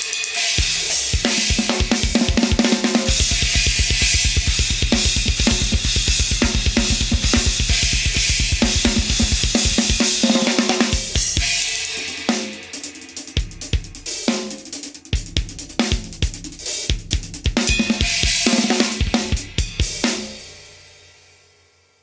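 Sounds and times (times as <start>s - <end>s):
drum kit groove: 0.0s - 21.5s.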